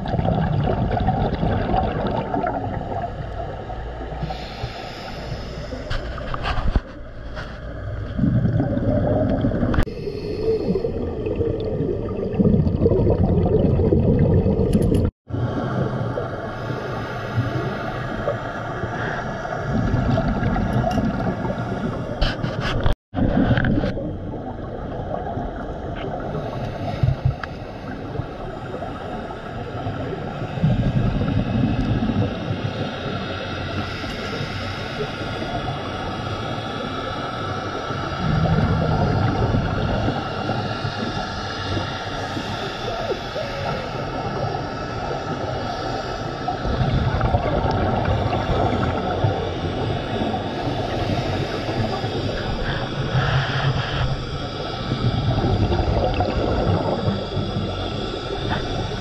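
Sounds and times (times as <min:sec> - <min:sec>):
exhaled bubbles gurgling: 0:00.0 - 0:59.0
scuba diver breathing underwater: 0:00.2 - 0:14.7, 0:15.3 - 0:23.8, 0:26.0 - 0:59.0.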